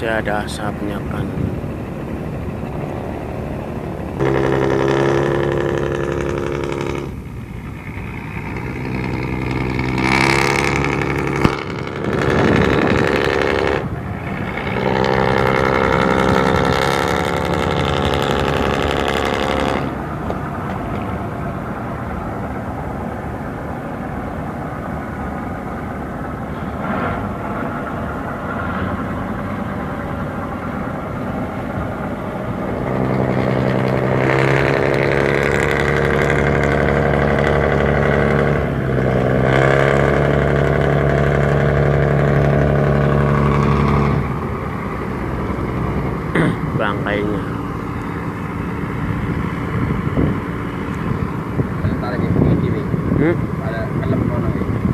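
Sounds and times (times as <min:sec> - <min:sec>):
motor engines running: 0:00.0 - 0:54.9.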